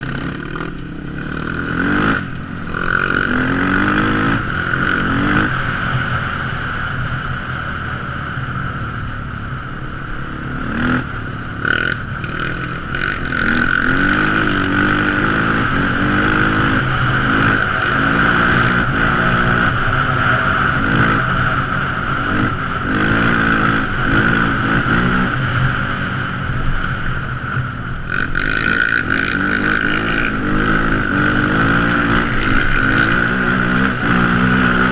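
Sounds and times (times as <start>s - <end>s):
quad engine revving: 0.0s - 6.3s, 10.3s - 26.1s, 28.0s - 34.9s
high-pitched whine: 0.0s - 34.9s.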